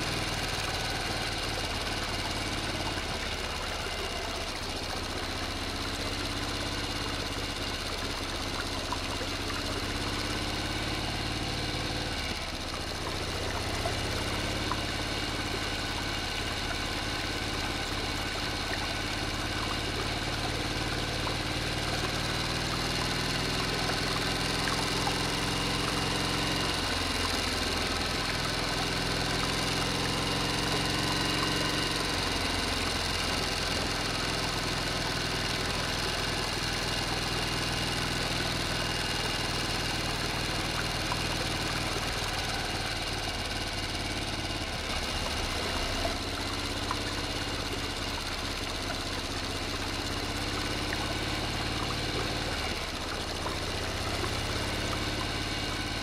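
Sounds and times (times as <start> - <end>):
water pouring into tank: 0.1 - 56.0.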